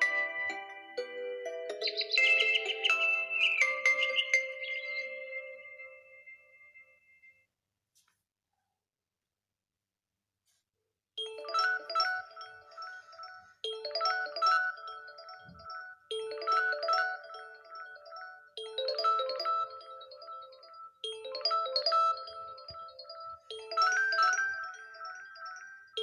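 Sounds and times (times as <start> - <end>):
mallet-like ringtone melody: 0.0 - 7.3, 11.2 - 26.0.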